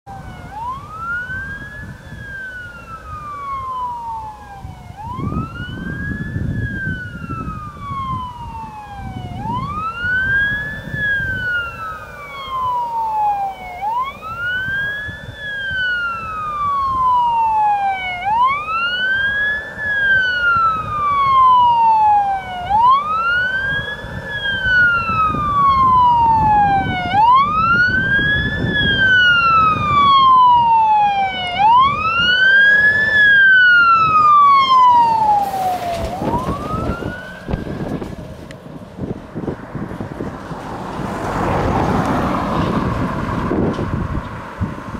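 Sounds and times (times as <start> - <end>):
fire truck siren wailing: 0.1 - 44.9.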